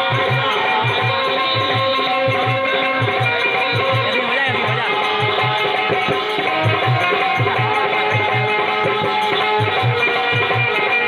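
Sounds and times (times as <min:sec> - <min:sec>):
sustained melodic instrument: 0:00.0 - 0:11.0.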